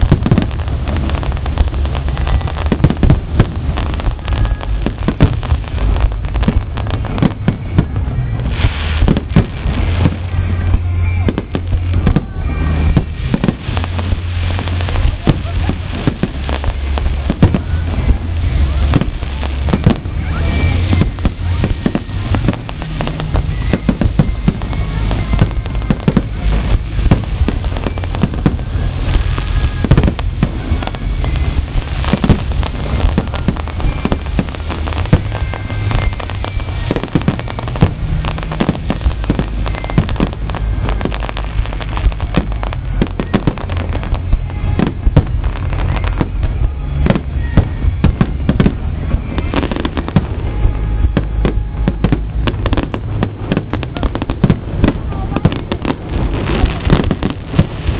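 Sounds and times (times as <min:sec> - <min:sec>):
fireworks bangs and crackling: 0:00.0 - 0:57.9
steady low rumble: 0:00.0 - 0:57.9.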